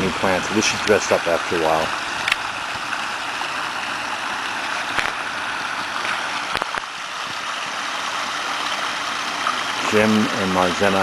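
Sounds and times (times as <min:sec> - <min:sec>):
water splashing down rocks: 0:00.0 - 0:11.0.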